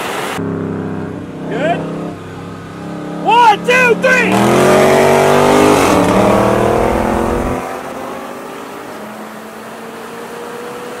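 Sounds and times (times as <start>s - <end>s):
car engine at full throttle: 0.0s - 11.0s.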